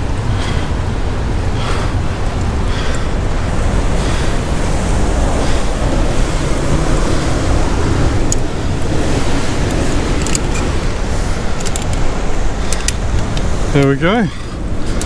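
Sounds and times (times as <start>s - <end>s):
ocean surf breaking on rocks: 0.0s - 15.0s
wind buffeting microphone: 0.0s - 15.0s.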